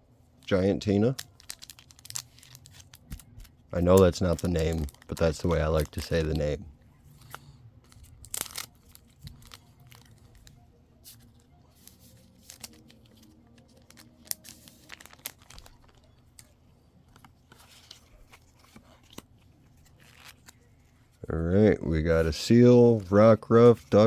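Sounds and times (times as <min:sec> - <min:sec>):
foil wrapper crinkling: 0:00.4 - 0:21.2
foil wrapper tearing: 0:00.6 - 0:20.9.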